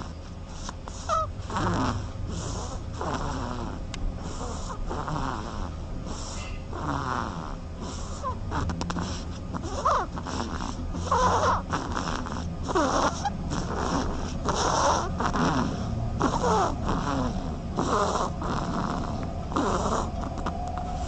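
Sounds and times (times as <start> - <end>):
duckling snoring: 0.0 - 21.0.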